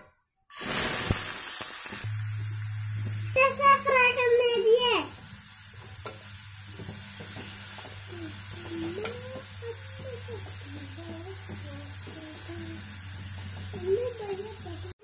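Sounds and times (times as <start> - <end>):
frying hiss: 0.1 - 15.0.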